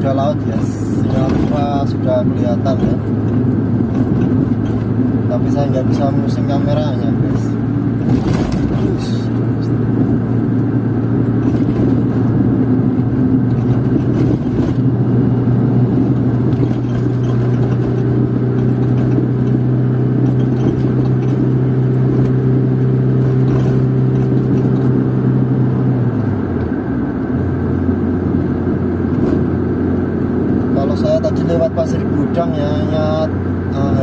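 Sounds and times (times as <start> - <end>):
car engine drone: 0.0 - 34.0
road noise: 0.0 - 34.0.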